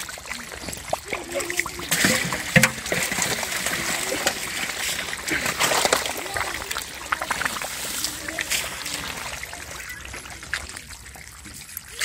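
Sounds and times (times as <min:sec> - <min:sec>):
muddy water trickling: 0:00.0 - 0:12.0
small splashes and squelches: 0:00.0 - 0:12.0.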